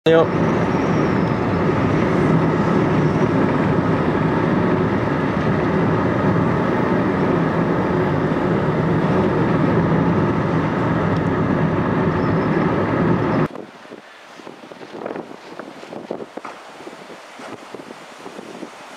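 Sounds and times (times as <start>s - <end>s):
road noise inside vehicle: 0.0s - 18.9s.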